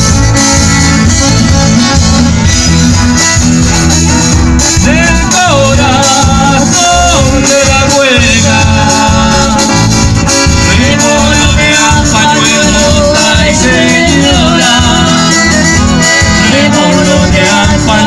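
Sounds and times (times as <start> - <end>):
accordion melody: 0.0 - 18.0
drum kit: 0.0 - 18.0
electric guitar: 0.0 - 18.0.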